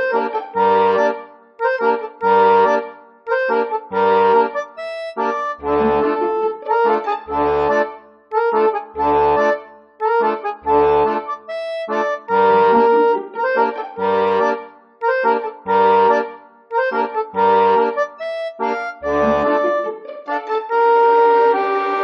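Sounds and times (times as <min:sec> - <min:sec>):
instrumental music with bass: 0:00.0 - 0:22.0.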